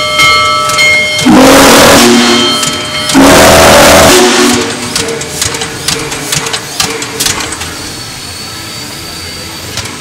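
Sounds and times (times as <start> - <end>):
steam locomotive hum: 0.0 - 10.0.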